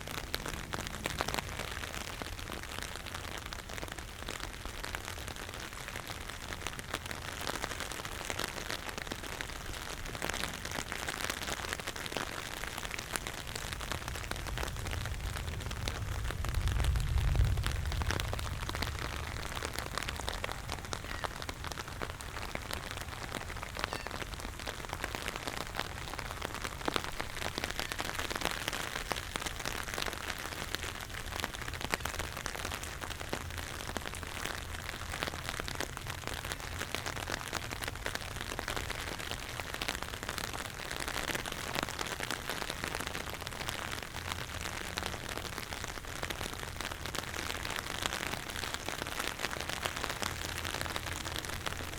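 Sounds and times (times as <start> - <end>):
rain on hard surfaces: 0.0 - 51.9.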